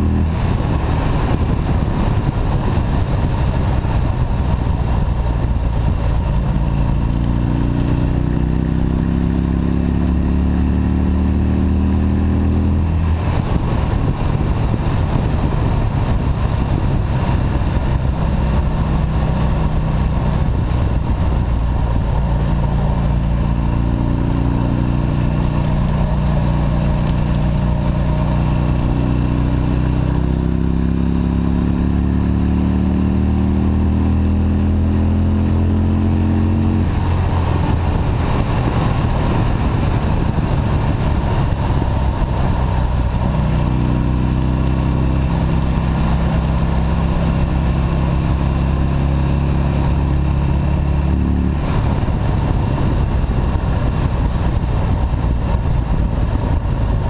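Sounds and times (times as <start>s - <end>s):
motorcycle engine: 0.0s - 57.0s
wind rush on microphone: 0.0s - 57.0s.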